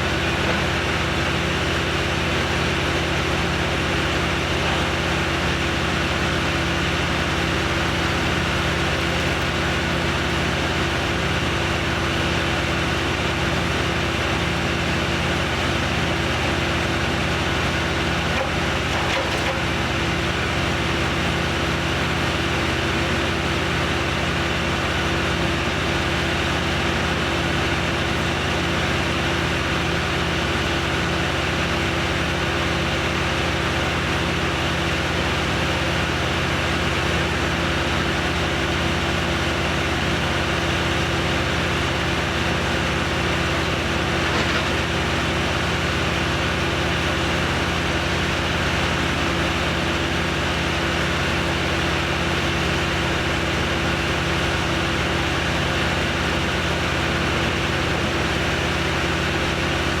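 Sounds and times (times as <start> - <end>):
engine running steadily: 0.0 - 60.0.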